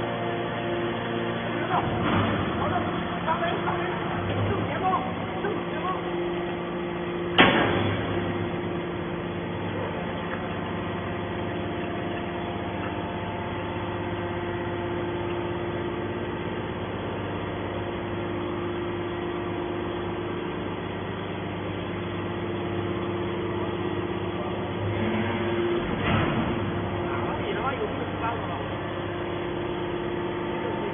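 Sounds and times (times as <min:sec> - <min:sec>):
heavy machinery humming: 0:00.0 - 0:30.9.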